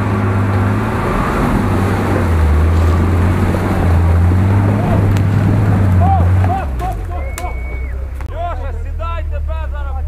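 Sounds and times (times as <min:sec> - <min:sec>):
off-road vehicle engine droning: 0:00.0 - 0:10.0.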